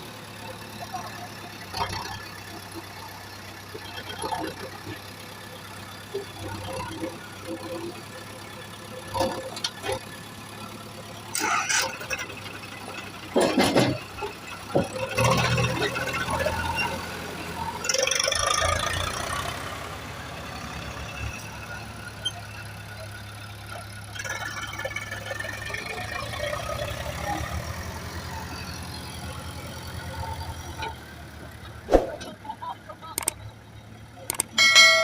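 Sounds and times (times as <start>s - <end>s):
heavy machinery diesel engine: 0.0s - 35.0s.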